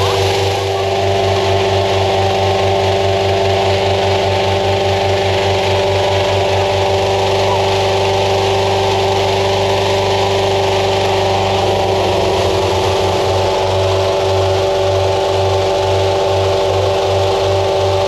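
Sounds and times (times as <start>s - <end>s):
inflation fan humming: 0.0s - 18.0s
low pulsing throb: 0.0s - 18.0s.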